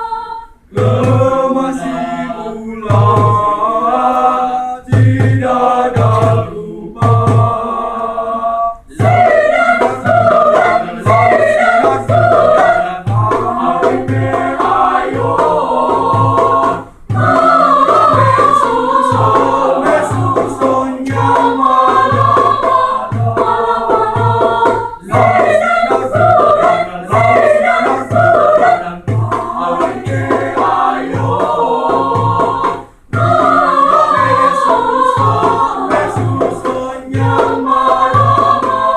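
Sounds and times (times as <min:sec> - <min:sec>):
choir singing in parts: 0:00.0 - 0:38.9
steady low beat: 0:00.6 - 0:04.3, 0:04.9 - 0:08.2, 0:08.9 - 0:38.9.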